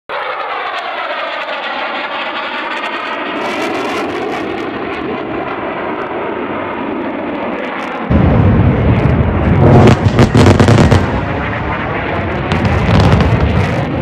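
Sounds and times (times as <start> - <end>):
jet flying overhead: 0.1 - 14.0.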